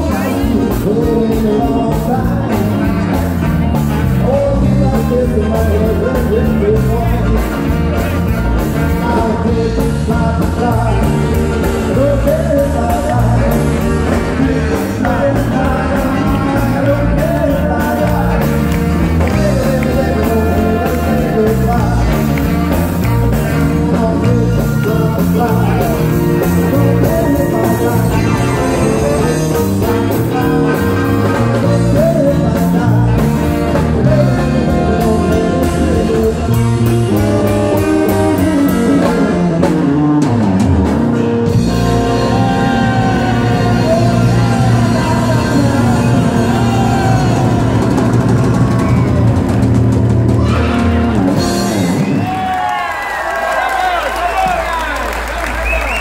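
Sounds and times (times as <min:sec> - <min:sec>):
saxophone: 0:00.0 - 0:52.8
male lead vocal: 0:00.0 - 0:55.0
rock and roll band playing: 0:00.0 - 0:56.0.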